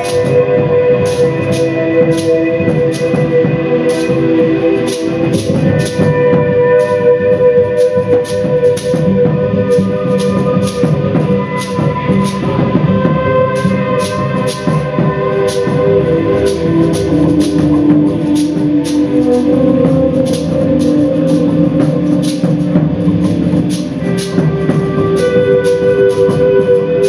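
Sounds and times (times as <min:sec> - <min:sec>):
held instrumental tones: 0:00.0 - 0:27.0.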